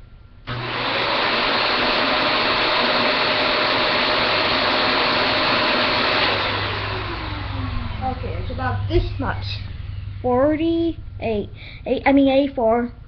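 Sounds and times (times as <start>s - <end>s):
vacuum cleaner running: 0.5s - 11.7s.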